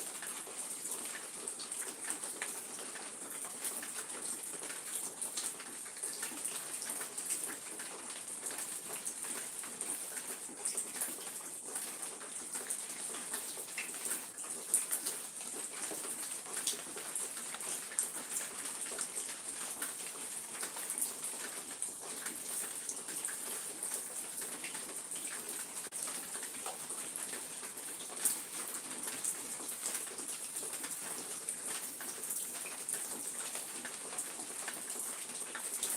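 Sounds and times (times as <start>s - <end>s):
small scattered ticks and patter: 0.0s - 35.9s.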